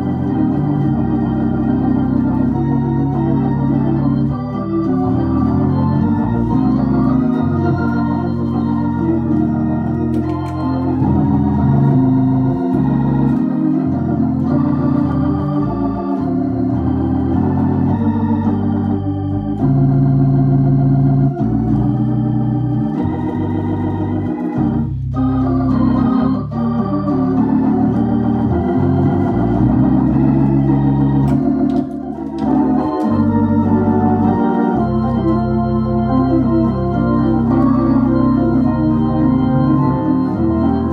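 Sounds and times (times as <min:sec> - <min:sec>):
organ through rotary speaker: 0:00.0 - 0:40.9.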